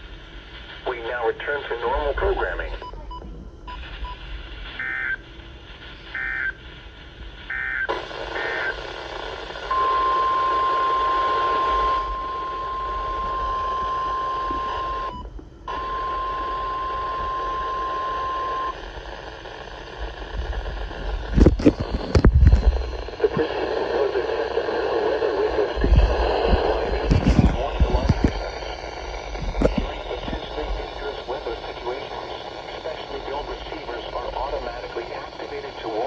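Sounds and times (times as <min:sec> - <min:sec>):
loud static crackle: 0:00.0 - 0:02.8, 0:03.8 - 0:15.1, 0:15.7 - 0:36.0
radio static hiss: 0:00.0 - 0:03.1, 0:03.8 - 0:36.0.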